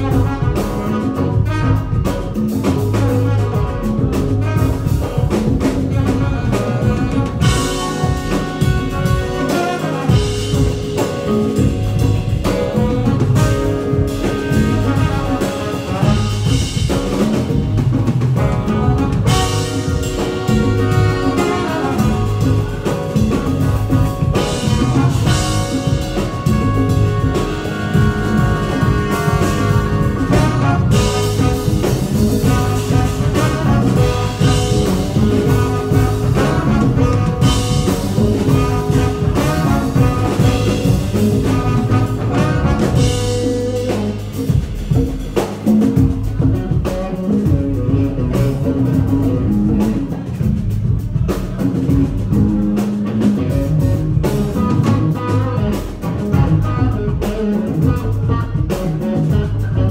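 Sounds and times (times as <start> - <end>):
bass guitar: 0.0 - 59.9
drum kit: 0.0 - 59.9
electric guitar: 0.0 - 59.9
keyboards: 0.0 - 59.9
trombone and saxophone melody: 0.0 - 59.9.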